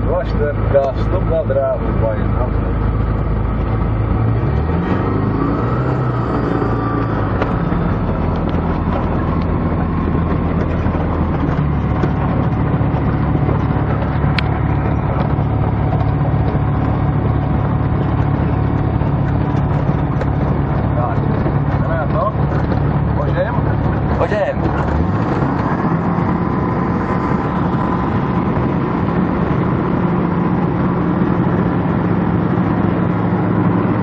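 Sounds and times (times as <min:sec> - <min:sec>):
light aircraft engine and propeller: 0:00.0 - 0:34.0.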